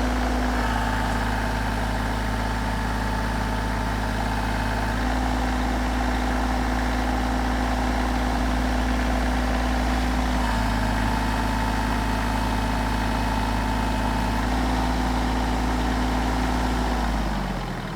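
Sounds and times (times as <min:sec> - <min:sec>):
tractor diesel engine idling: 0:00.0 - 0:17.9.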